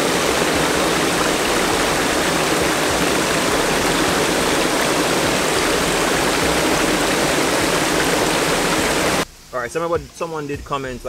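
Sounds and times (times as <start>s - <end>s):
waterfall splashing into pool: 0.0s - 9.2s.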